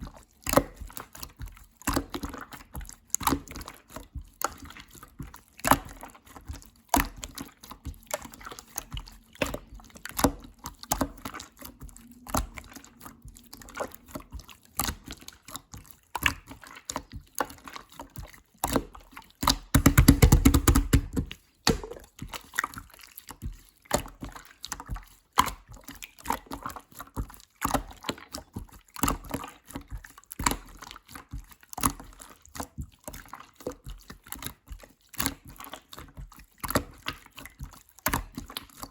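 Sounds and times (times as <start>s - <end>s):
slime squishing with wet clicks: 0.0s - 38.9s.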